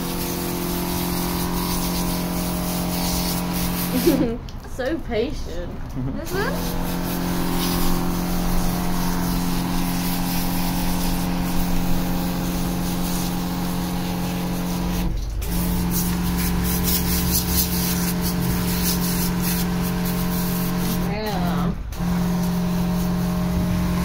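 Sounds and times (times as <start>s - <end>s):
pump motor humming: 0.0s - 4.3s, 6.3s - 24.0s
water spray hissing: 0.0s - 4.4s, 6.2s - 24.0s.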